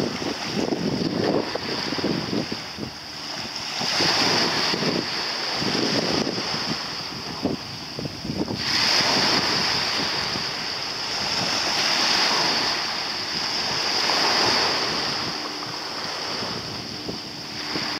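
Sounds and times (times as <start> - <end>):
sea waves: 0.0 - 17.9
wind on microphone: 0.0 - 17.9.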